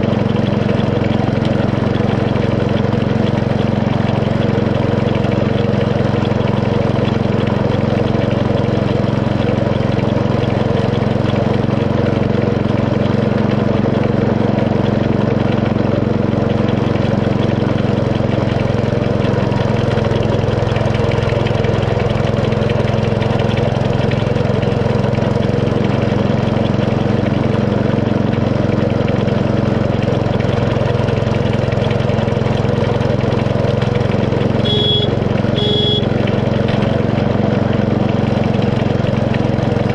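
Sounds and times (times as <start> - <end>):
small petrol engine drone: 0.0 - 39.9.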